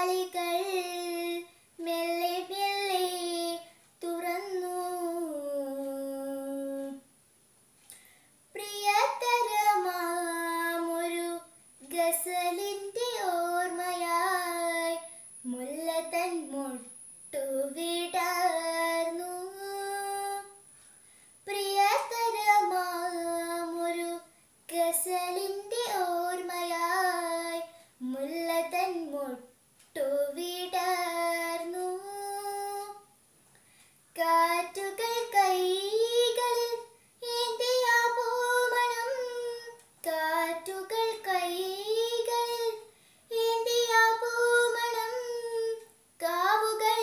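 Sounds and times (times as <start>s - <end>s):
girl singing unaccompanied: 0.0s - 7.2s, 7.9s - 20.8s, 21.4s - 33.2s, 34.0s - 47.0s.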